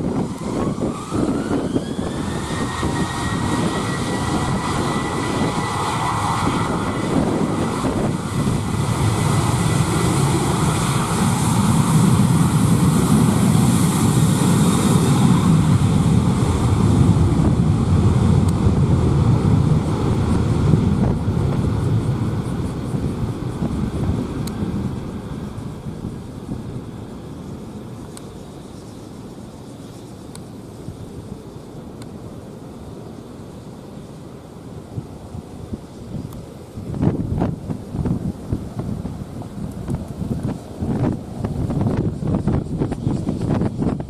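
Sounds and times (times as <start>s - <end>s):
jet engine whine: 0.0s - 44.0s.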